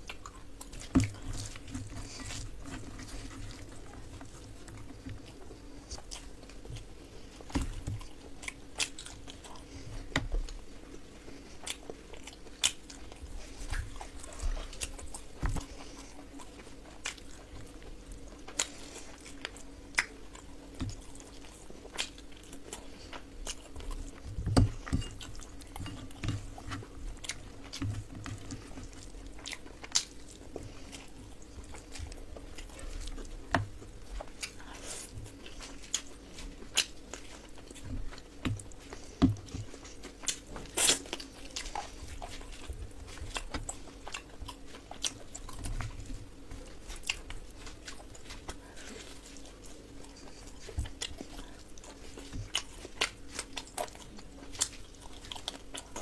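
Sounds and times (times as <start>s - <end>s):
chewing crispy food: 0.0s - 56.0s
faint steady hum: 0.0s - 56.0s.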